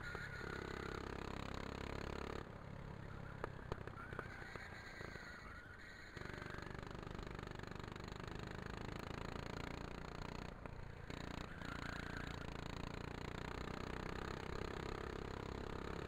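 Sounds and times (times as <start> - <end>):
go-kart engine droning: 0.0 - 16.0.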